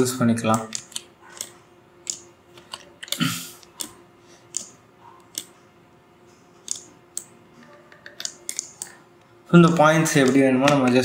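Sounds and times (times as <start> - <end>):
computer mouse clicking: 0.5 - 5.6, 6.6 - 9.0, 9.6 - 11.0.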